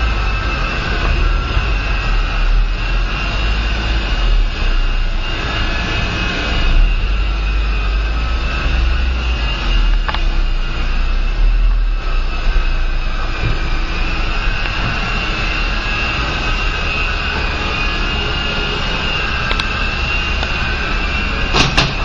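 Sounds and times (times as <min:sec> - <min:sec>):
rc helicopter rotors whining: 0:00.0 - 0:22.0.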